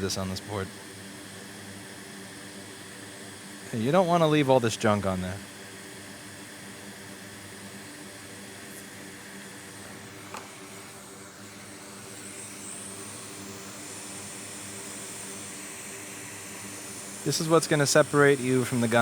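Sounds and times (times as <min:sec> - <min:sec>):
fan humming and hissing: 0:00.0 - 0:19.0.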